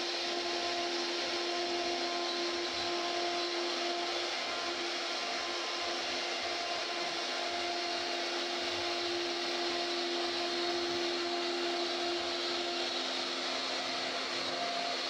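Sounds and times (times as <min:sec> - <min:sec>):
hiss of wood being cut: 0:00.0 - 0:15.0
router spindle whine: 0:00.0 - 0:15.0.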